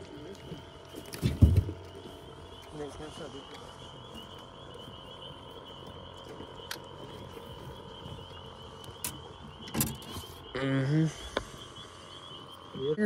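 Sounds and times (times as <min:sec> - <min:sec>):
frogs trilling: 0:00.0 - 0:13.0.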